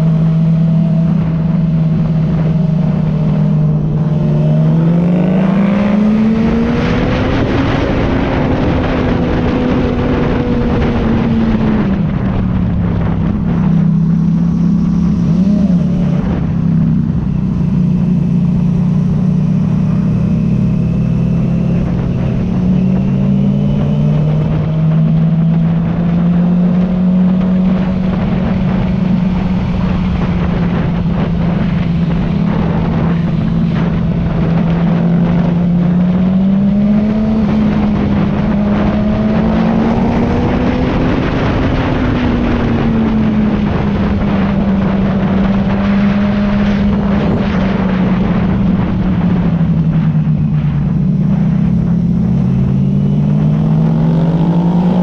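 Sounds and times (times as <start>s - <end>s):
heavy wind rush: 0.0s - 55.0s
motorcycle engine running: 0.0s - 55.0s.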